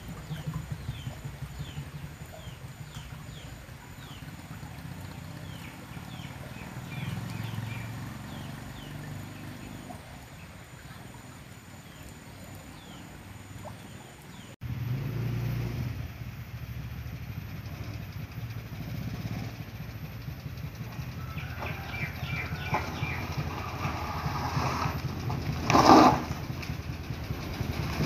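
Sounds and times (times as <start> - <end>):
small engine humming: 0.0 - 13.4, 14.6 - 28.0.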